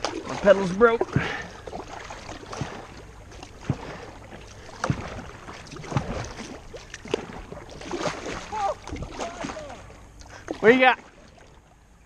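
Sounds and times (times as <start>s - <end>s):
paddle splashing in water: 0.0s - 11.8s.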